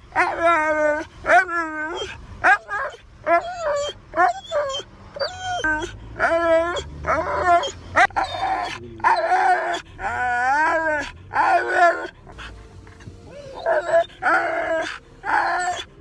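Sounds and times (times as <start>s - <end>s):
dog whining and howling: 0.1s - 16.0s.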